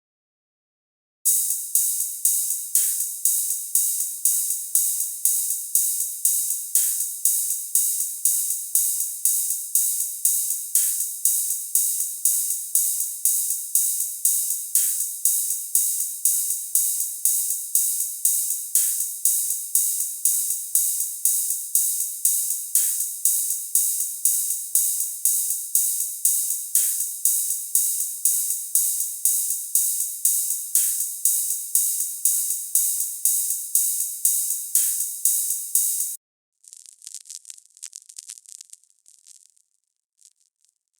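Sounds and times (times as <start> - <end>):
hi-hat cymbal hits: 1.3 - 36.2.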